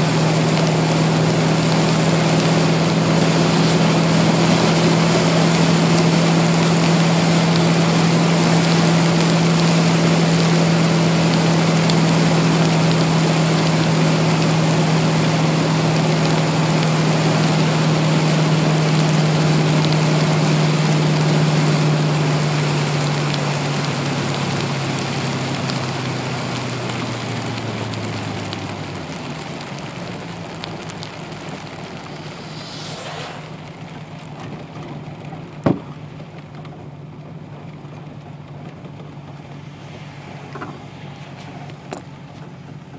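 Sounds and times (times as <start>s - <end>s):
car engine drone: 0.0s - 42.9s
rain hissing: 0.0s - 42.9s
tyre spray on wet road: 0.0s - 42.9s.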